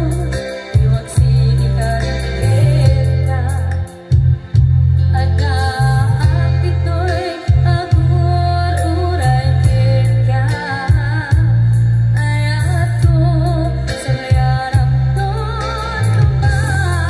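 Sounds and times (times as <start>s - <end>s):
woman singing with vibrato: 0.0s - 4.2s, 5.1s - 17.0s
electronic keyboard with bass line: 0.0s - 17.0s.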